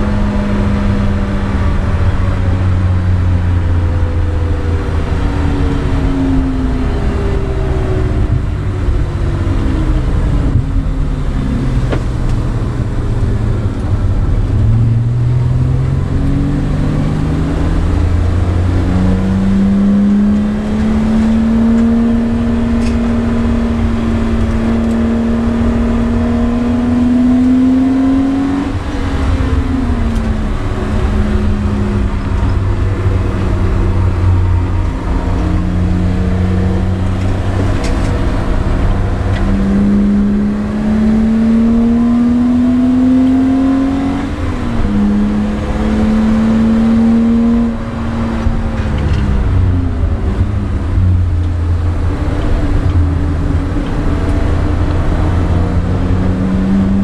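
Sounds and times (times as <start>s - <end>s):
car engine accelerating: 0.0s - 57.0s
road and wind rumble: 0.0s - 57.0s.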